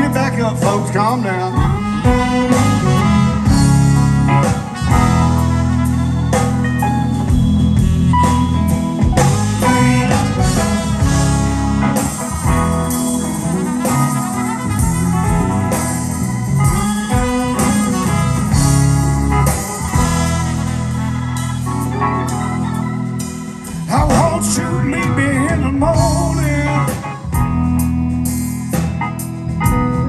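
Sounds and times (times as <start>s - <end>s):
live blues band playing: 0.0s - 30.0s.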